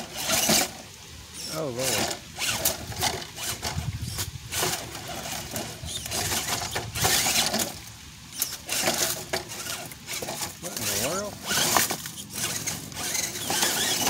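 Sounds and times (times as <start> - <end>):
toy car clattering on rocks: 0.0 - 0.8, 1.4 - 14.0
toy car motor whirring: 0.0 - 14.0.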